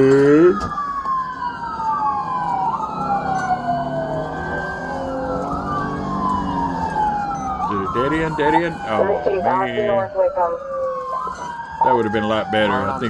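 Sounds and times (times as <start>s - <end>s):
moving car noise: 0.0s - 13.0s
police sirens wailing: 0.0s - 13.0s.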